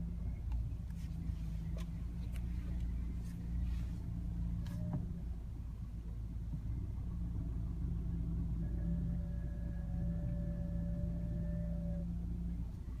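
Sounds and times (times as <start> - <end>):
car engine idling: 0.0 - 13.0
power steering whine: 0.0 - 13.0.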